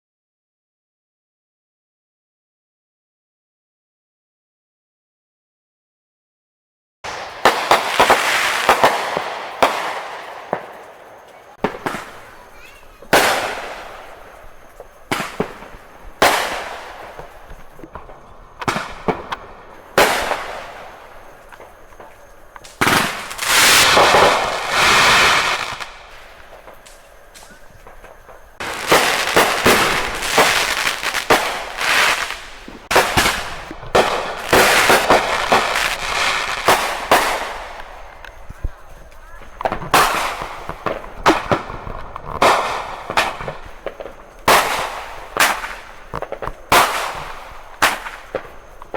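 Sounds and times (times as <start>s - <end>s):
fireworks bangs: 7.0s - 48.9s
fireworks crackling: 7.0s - 48.9s
rapid crackling pops: 7.1s - 48.9s.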